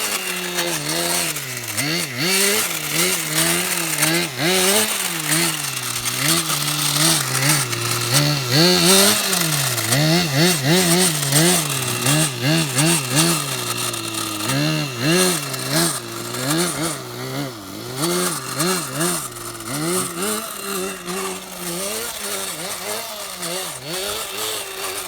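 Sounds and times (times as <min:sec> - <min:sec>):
model car motor revving: 0:00.0 - 0:25.0.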